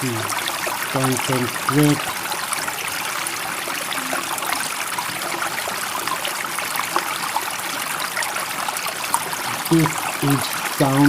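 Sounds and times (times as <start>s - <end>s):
water running: 0.0s - 11.0s.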